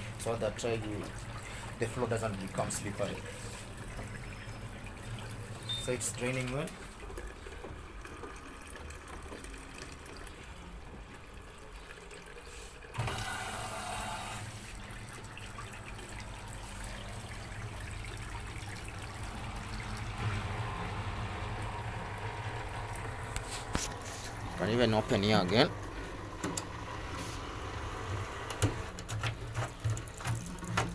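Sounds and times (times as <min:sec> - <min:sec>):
washing machine low hum: 0:00.0 - 0:30.9
water draining from hose: 0:00.0 - 0:30.9.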